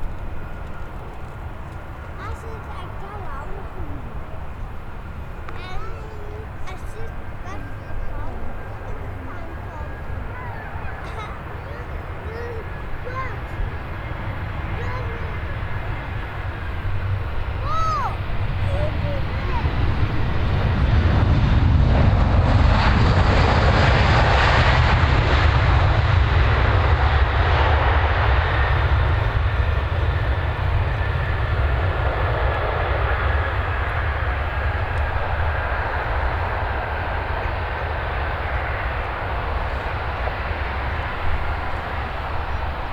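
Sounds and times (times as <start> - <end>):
jet airliner engine noise: 0.0 - 42.9.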